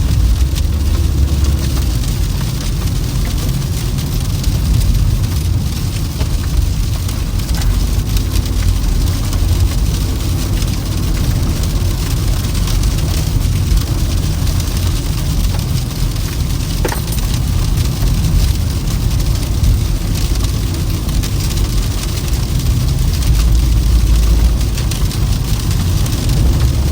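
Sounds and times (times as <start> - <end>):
car tyres on snowy road: 0.0 - 26.9.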